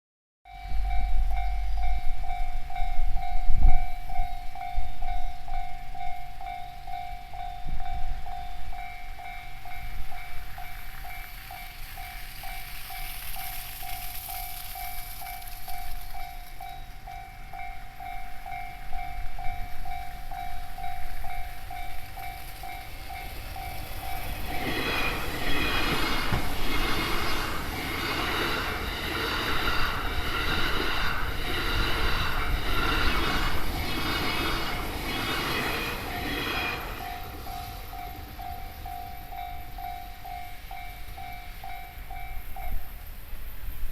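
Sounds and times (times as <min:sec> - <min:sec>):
level crossing warning bell: 0:00.5 - 0:43.2
train wheels clattering: 0:05.0 - 0:42.8.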